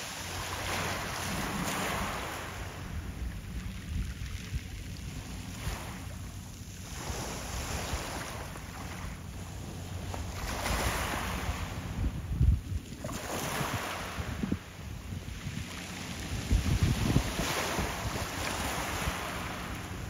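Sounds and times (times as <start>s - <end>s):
waves washing in: 0.0s - 20.0s
wind buffeting microphone: 0.6s - 8.5s, 9.4s - 20.0s.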